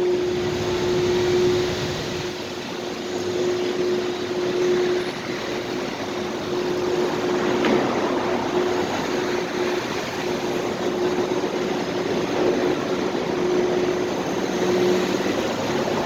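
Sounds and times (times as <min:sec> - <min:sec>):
constant mechanical hum: 0:00.0 - 0:16.0
steady wash of noise: 0:00.0 - 0:16.0.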